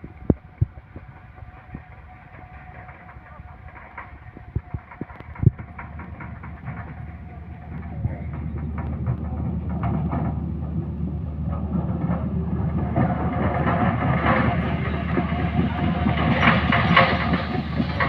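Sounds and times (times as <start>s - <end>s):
heavy machinery engine rumble: 0.0s - 18.0s
metallic clanks: 1.6s - 18.0s.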